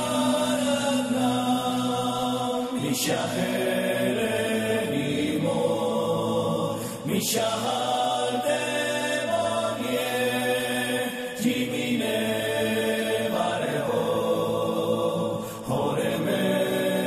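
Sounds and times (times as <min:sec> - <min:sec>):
voices chanting in held notes: 0:00.0 - 0:17.0.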